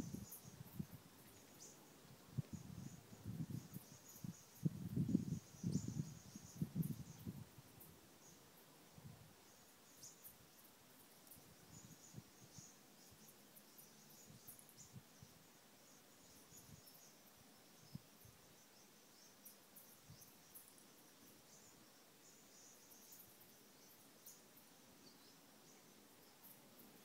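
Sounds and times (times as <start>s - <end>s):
faint high-pitched chirping: 0.0s - 27.0s.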